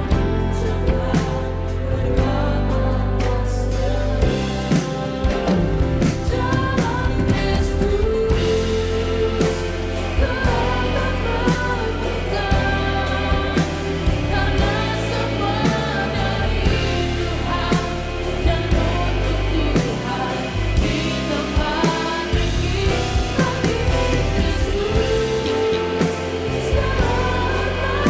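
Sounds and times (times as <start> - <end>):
band playing worship song: 0.0 - 28.0
person singing: 0.0 - 28.0.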